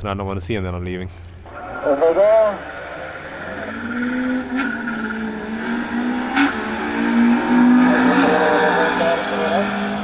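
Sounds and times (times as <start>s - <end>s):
drag racing cars accelerating: 1.5s - 10.0s.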